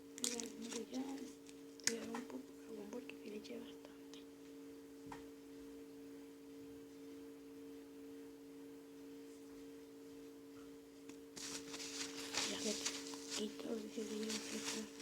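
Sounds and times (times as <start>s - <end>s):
faint two-pitched hum: 0.0s - 15.0s.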